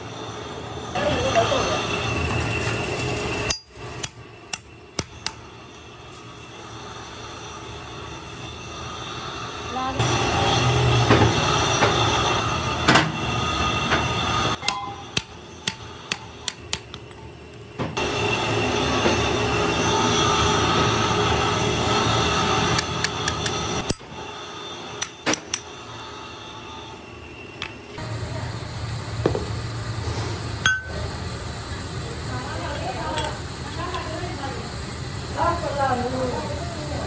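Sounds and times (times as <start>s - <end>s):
workshop machinery droning and whining: 0.0s - 37.0s.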